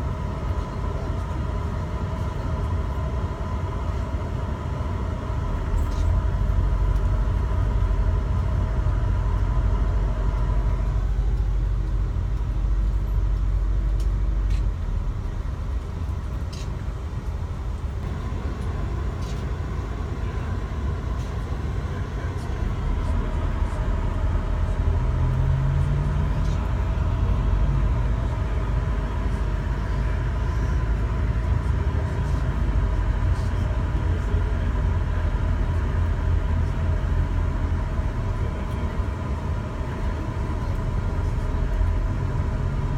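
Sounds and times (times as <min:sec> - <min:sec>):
road and engine rumble: 0:00.0 - 0:42.9.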